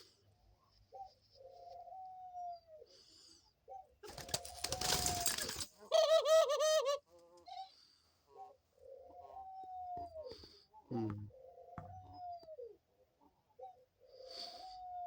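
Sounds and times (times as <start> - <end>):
dove cooing: 0.6 - 2.9, 3.7 - 15.0.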